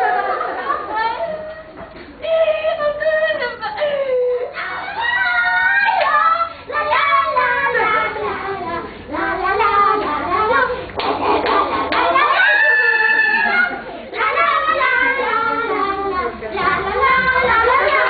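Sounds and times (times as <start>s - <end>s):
women singing and chanting: 0.0s - 18.0s.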